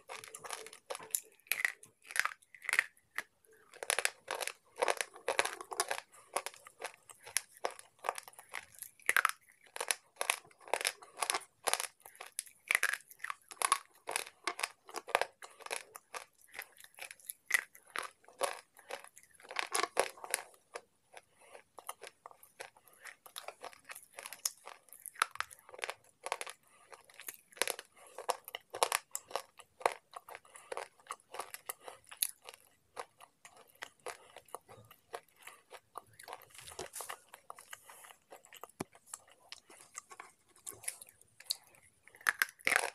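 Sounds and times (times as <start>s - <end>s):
slate pencils crunching when chewed: 0.0s - 42.9s.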